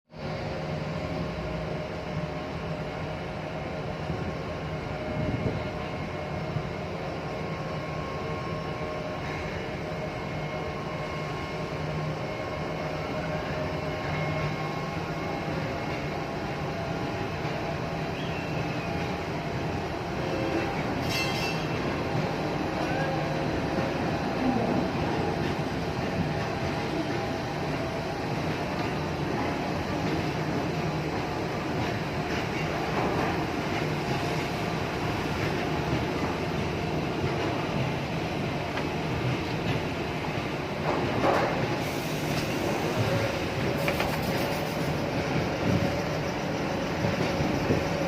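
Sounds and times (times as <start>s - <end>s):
electric locomotives mechanical hum: 0.1s - 48.0s.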